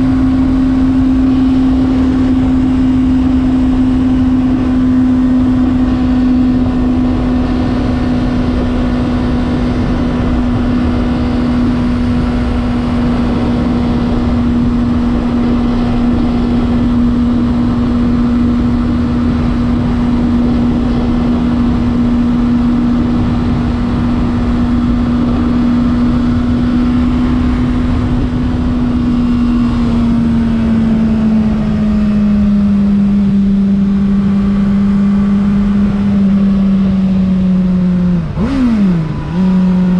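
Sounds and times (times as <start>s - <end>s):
wind noise rushing: 0.0s - 33.2s
motorcycle engine steady note: 0.0s - 39.9s.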